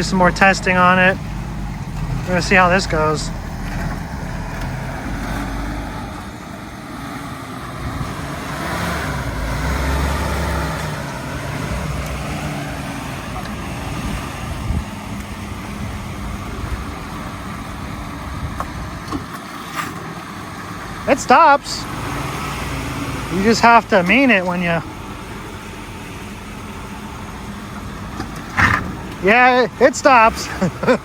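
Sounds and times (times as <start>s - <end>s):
car engine revving while driving: 0.0s - 31.0s.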